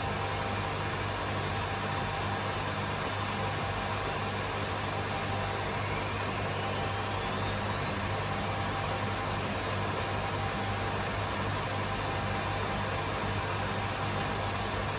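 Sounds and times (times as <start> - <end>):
washing machines spinning: 0.0 - 14.9.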